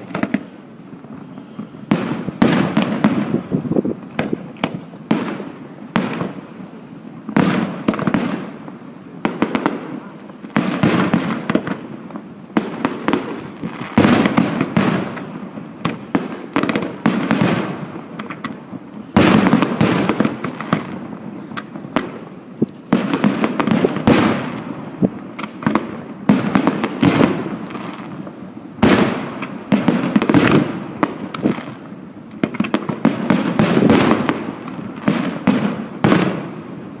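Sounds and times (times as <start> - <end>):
fireworks booming and crackling: 0.0 - 37.0.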